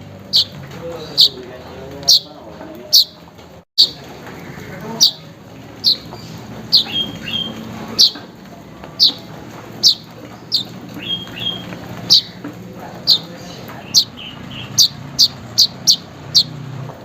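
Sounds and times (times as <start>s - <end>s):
bird chirping: 0.0s - 16.6s.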